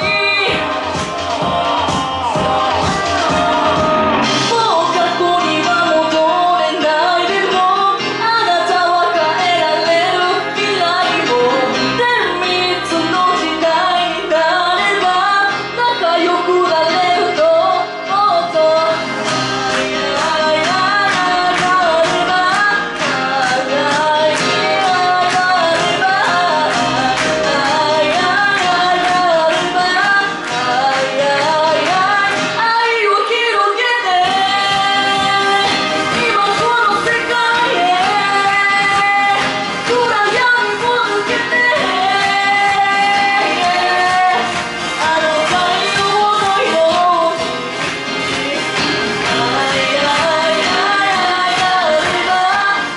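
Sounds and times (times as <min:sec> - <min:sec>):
instrumental backing music: 0:00.0 - 0:52.9
woman singing into microphone: 0:00.0 - 0:52.9.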